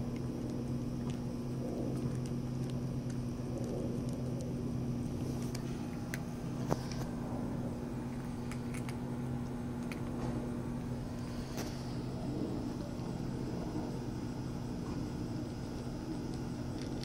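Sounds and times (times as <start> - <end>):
cats crunching dry kibble: 0.0 - 17.0
low mechanical hum: 0.0 - 17.0.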